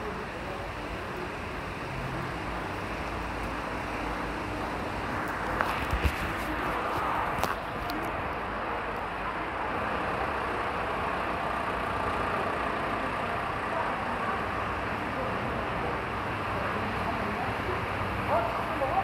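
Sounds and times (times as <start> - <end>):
low traffic hum: 0.0 - 19.0.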